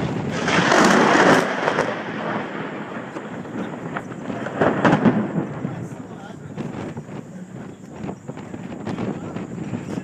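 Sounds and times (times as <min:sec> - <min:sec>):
thunder crackling and rumbling: 0:00.0 - 0:10.0.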